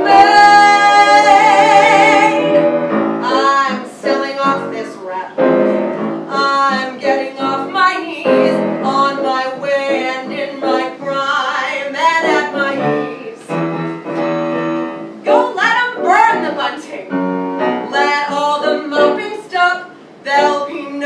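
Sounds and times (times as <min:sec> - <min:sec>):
piano accompaniment: 0:00.0 - 0:21.0
woman singing show tune: 0:00.0 - 0:21.0.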